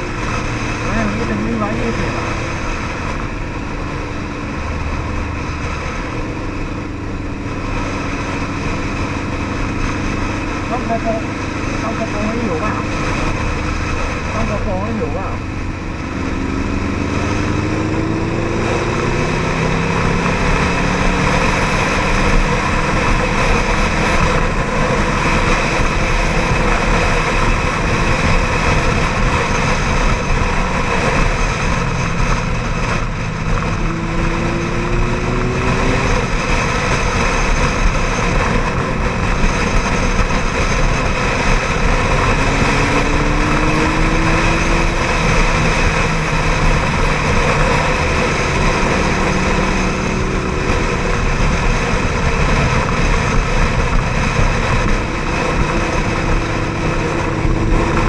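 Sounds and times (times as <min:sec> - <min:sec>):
motorcycle engine accelerating: 0:00.0 - 0:58.0
wind noise on microphone: 0:00.0 - 0:58.0.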